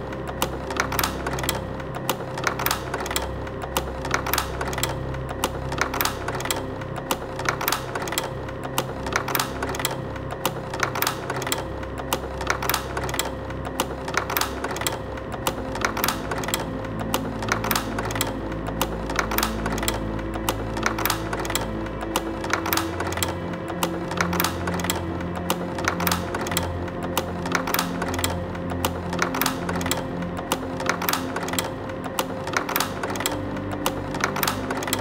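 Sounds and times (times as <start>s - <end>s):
projector hum: 0.0s - 35.0s
slide projector changer clicking: 0.0s - 35.0s.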